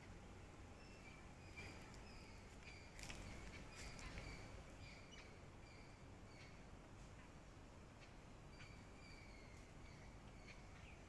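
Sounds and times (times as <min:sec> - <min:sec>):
faint bird chirping: 0:00.0 - 0:11.0
low background hum: 0:00.0 - 0:11.0.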